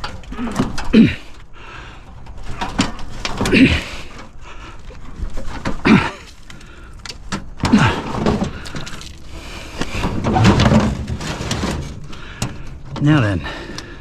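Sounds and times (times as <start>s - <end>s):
creaking scrapes: 0.0s - 13.7s
scrap metal knocks and clatter: 2.1s - 13.4s.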